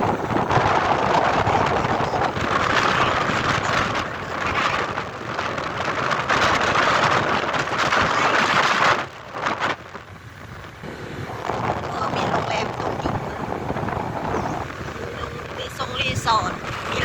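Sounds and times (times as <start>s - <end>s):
rough surf: 0.0s - 17.0s
wind rushing over microphone: 0.0s - 17.0s.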